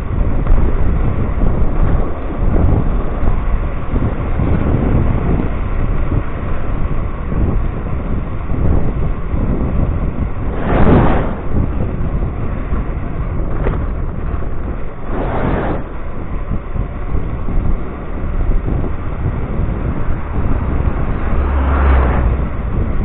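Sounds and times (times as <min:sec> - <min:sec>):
low rumble: 0:00.0 - 0:23.0
wind rushing over microphone: 0:00.0 - 0:23.0.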